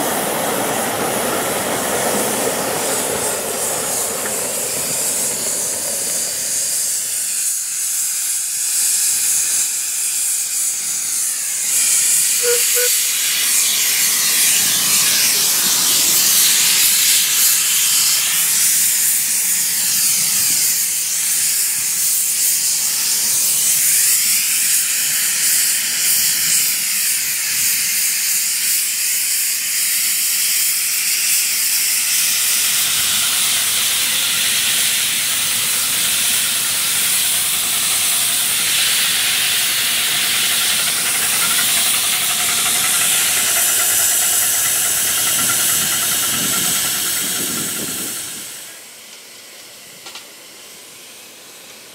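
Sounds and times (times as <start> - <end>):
steam hissing: 0.0 - 51.9.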